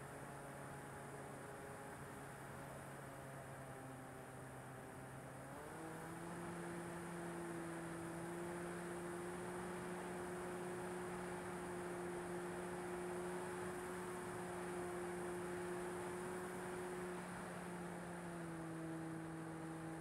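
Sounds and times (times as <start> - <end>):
model plane motor whine: 1.5 - 20.0.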